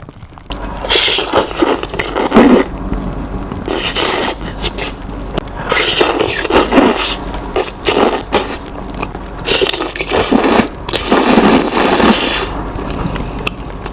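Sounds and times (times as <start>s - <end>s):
biting and chewing: 0.5s - 13.9s.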